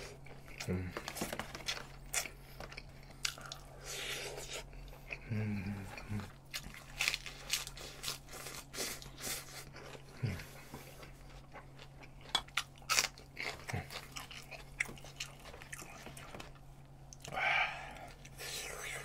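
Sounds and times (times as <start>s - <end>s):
person chewing lettuce: 0.0s - 19.0s.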